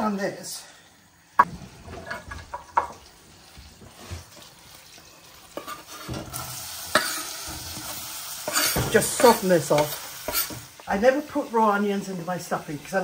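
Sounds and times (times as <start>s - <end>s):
onions sizzling in butter: 0.0s - 13.0s.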